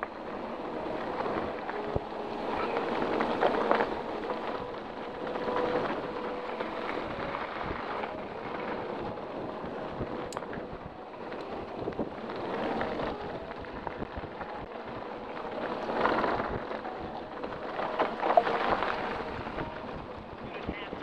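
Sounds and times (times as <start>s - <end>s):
bike tyres on dirt: 0.0s - 21.0s
wind on microphone: 0.0s - 21.0s.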